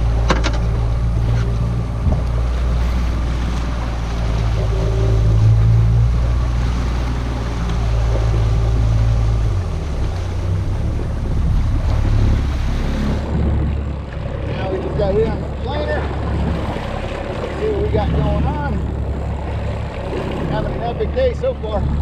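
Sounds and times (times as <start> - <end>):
boat engine droning: 0.0 - 22.0
water rushing past hull: 0.0 - 22.0.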